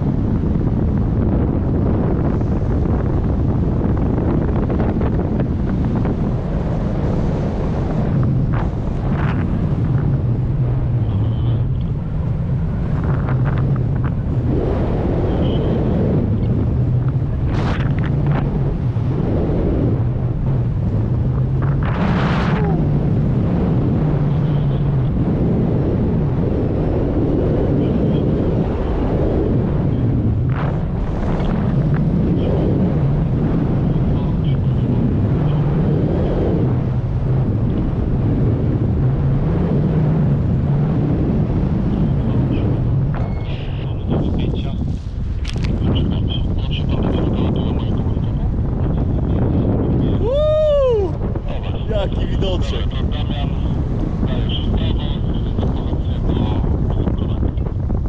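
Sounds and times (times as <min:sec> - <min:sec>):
low wavering hum: 0:00.0 - 0:58.0
wind buffeting microphone: 0:00.0 - 0:58.0.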